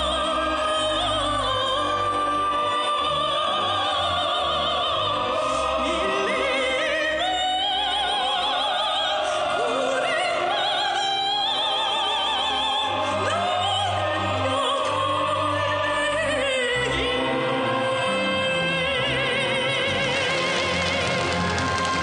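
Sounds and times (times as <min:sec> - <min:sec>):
orchestral accompaniment: 0:00.0 - 0:22.0
person singing with vibrato: 0:00.0 - 0:22.0.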